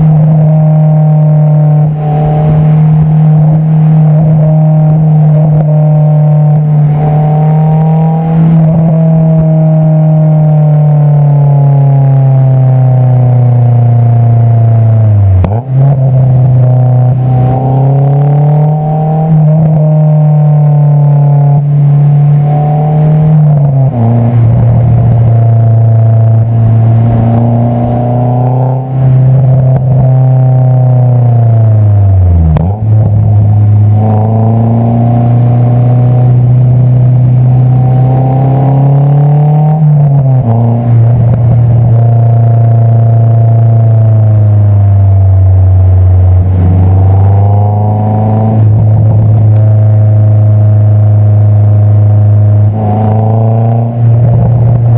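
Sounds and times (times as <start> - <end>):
car exhaust while driving: 0.0 - 54.9.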